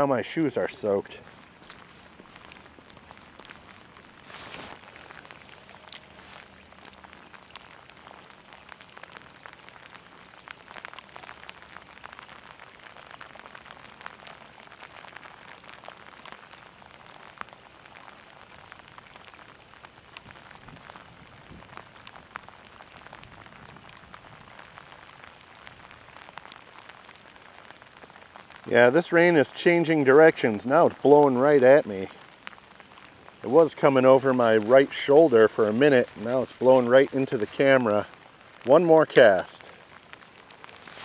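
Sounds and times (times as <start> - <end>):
rain falling on a pond: 0.0 - 41.0.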